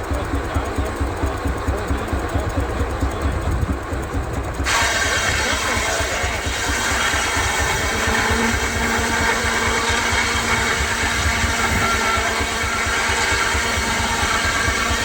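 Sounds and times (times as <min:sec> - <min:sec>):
steady hum: 0:00.0 - 0:15.0
steam traction engine running: 0:00.0 - 0:15.0.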